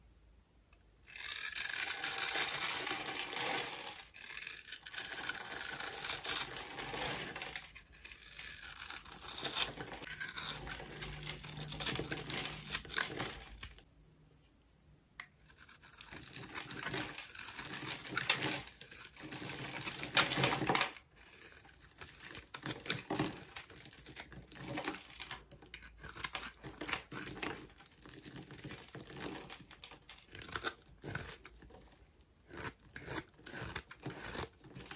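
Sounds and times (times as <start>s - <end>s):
knife carving dry soap: 0.8s - 13.9s, 15.2s - 34.9s.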